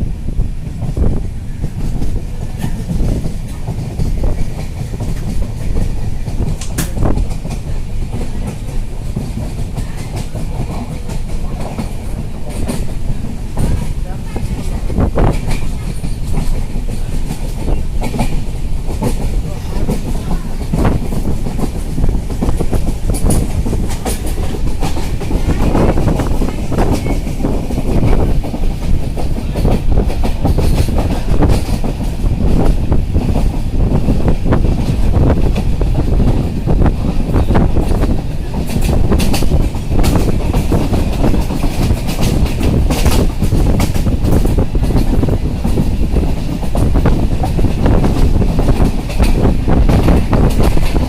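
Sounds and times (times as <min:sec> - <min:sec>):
train rumbling: 0:00.0 - 0:51.0
wheels clattering over rails: 0:00.7 - 0:51.0.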